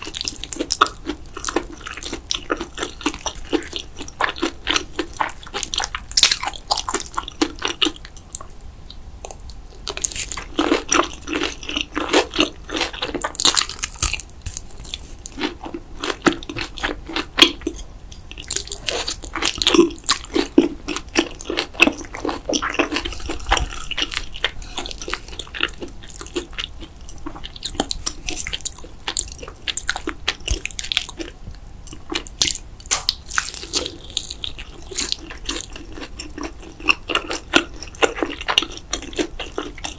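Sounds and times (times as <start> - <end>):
person chewing crunchy food: 0.0 - 8.6, 9.2 - 39.9.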